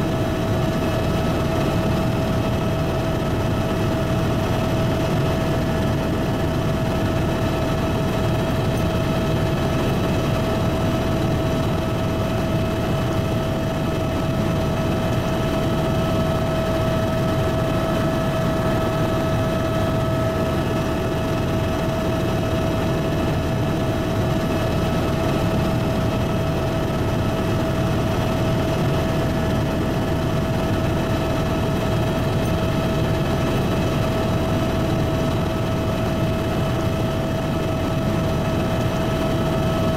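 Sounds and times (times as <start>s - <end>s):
constant whine: 0.0s - 39.9s
helicopter engine and rotor: 0.0s - 39.9s.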